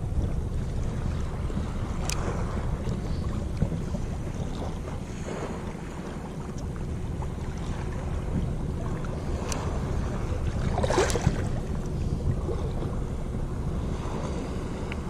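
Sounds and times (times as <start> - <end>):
sea water lapping at shore: 0.0 - 15.0
wind buffeting microphone: 0.0 - 15.0.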